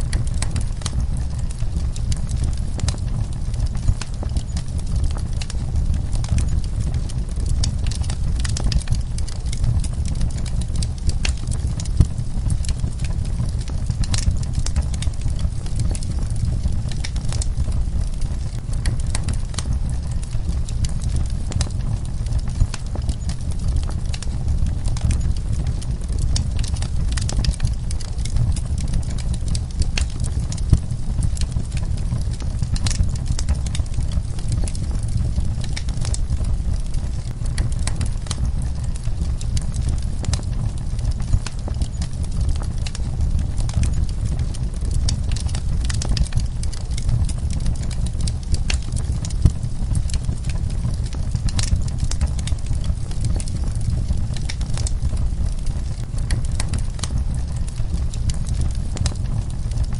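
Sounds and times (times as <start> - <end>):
logs crackling in fire: 0.0 - 59.9
low rumble of flames: 0.0 - 59.9.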